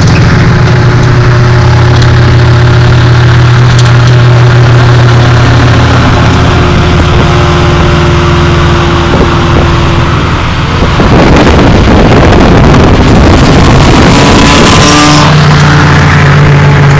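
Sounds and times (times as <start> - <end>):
car engine running: 0.0 - 16.9
loud dense rush: 0.0 - 16.9
wind noise on microphone: 0.0 - 16.9.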